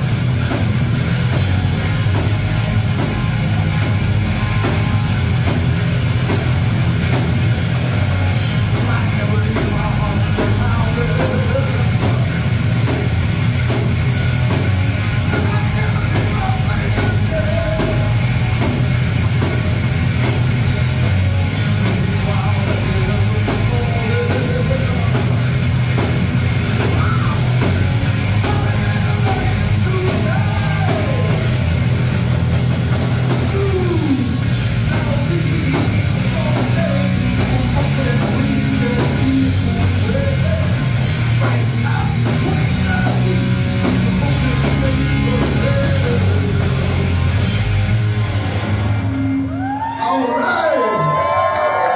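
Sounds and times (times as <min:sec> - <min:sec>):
drum kit beat: 0:00.0 - 0:49.8
bass guitar: 0:00.0 - 0:51.9
distorted electric guitars: 0:00.0 - 0:51.9.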